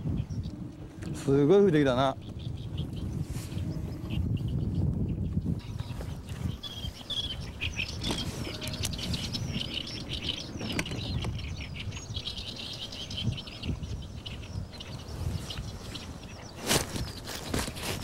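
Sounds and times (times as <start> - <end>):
small birds chirping: 0.0 - 18.0
wind on microphone: 0.0 - 18.0.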